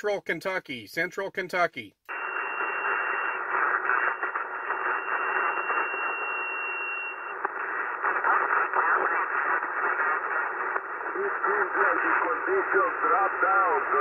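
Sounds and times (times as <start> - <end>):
radio static hiss: 2.1 - 14.0
weak garbled radio signals: 2.1 - 14.0.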